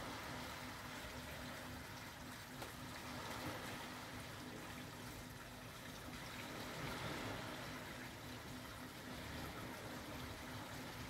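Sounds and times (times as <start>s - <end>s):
faint steady hum: 0.0s - 11.0s
gentle surf on sandy beach: 0.0s - 11.0s.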